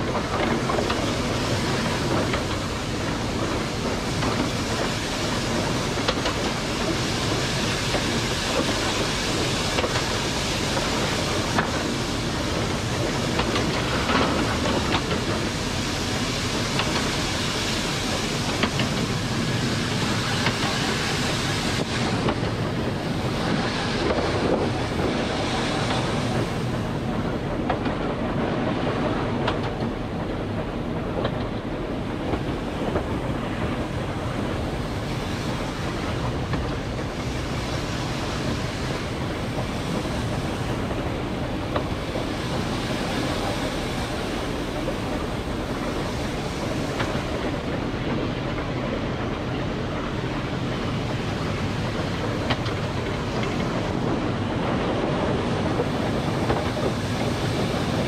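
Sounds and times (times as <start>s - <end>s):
train wheels rumbling on rail: 0.0s - 58.0s
wind on microphone: 0.0s - 58.0s.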